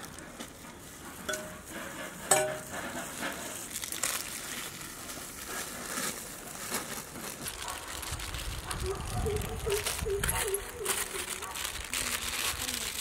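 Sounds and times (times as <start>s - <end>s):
foil pouches crinkling: 0.0s - 13.0s.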